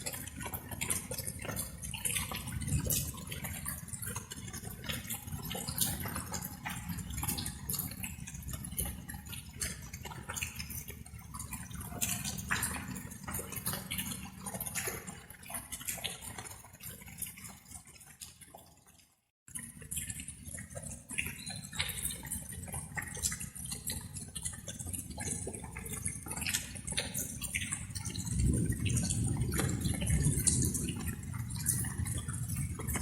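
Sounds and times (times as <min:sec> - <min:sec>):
raindrops pattering: 0:00.0 - 0:33.0.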